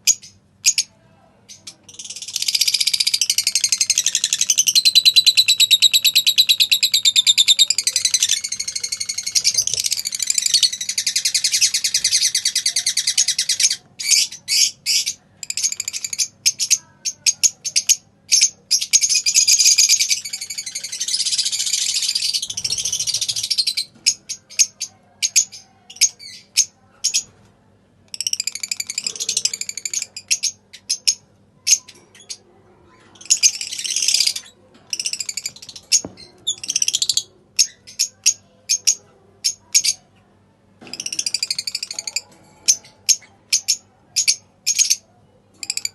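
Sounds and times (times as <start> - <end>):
lovebirds warbling chatter: 0.0 - 45.9.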